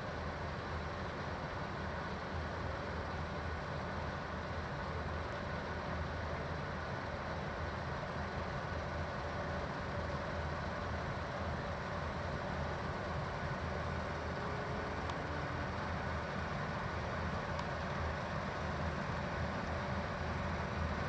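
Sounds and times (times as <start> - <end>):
faint steady whines: 0.0 - 21.0
heavy machinery engine drone: 0.0 - 21.0.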